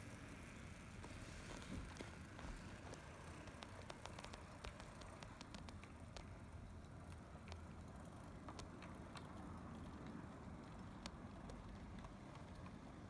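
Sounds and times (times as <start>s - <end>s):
wheels clicking on rails: 0.0s - 13.0s.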